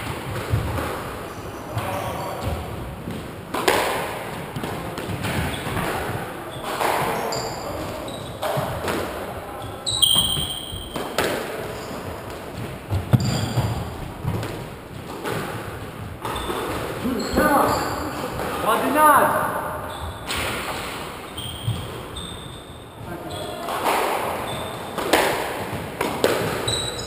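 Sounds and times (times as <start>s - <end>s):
squash ball hits ringing: 0.0s - 11.7s, 12.9s - 18.9s, 19.5s - 27.0s
shoes squeaking on wooden floor: 0.0s - 27.0s.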